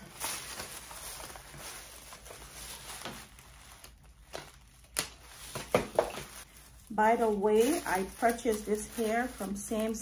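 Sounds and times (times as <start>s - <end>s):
soft rustling and handling: 0.0s - 10.0s.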